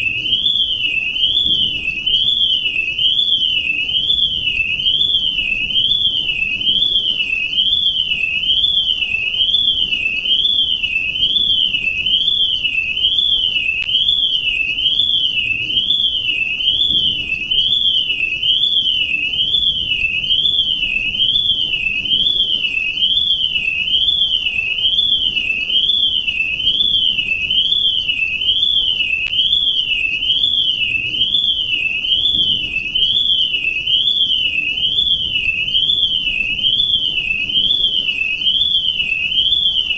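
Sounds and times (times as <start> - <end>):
warbling electronic alarm: 0.0 - 39.9.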